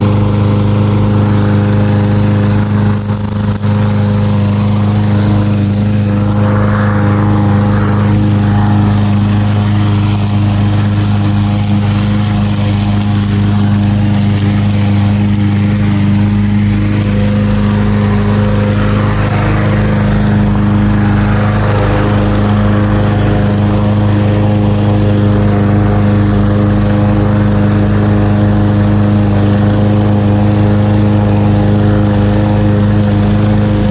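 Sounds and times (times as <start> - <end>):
lawn mower running: 0.0 - 33.9.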